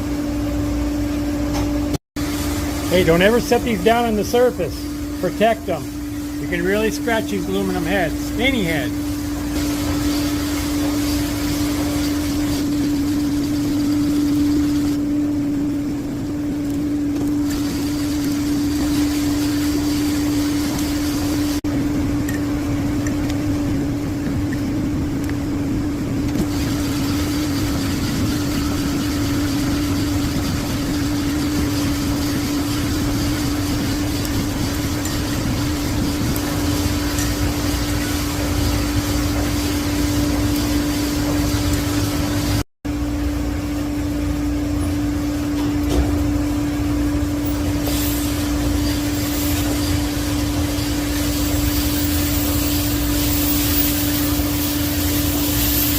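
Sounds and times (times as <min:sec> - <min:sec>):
steady machine hum: 0:00.0 - 0:55.9.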